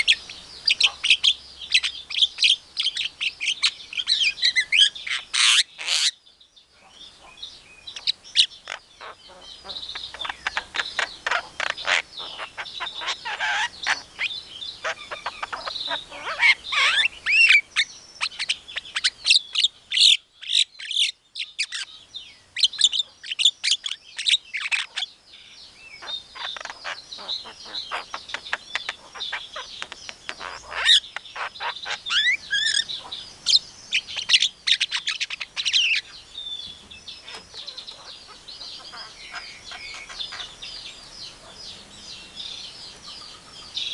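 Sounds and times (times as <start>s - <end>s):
myna bird singing: 0.0s - 43.9s.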